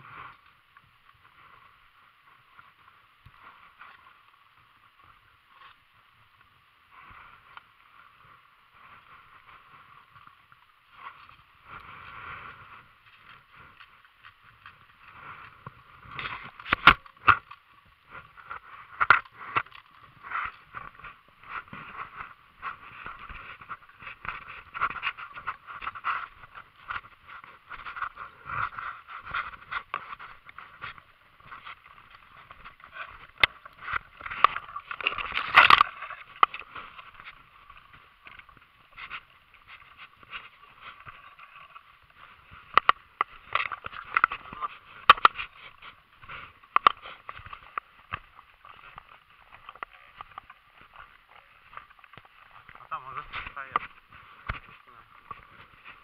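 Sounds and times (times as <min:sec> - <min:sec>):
rustling of person moving: 0:00.0 - 0:56.0.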